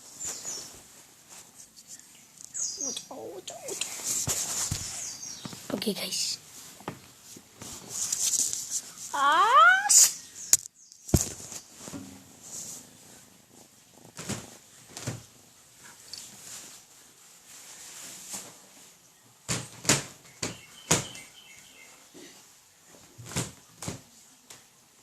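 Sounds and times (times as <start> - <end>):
quiet rustling: 0.0 - 9.3, 10.4 - 25.0.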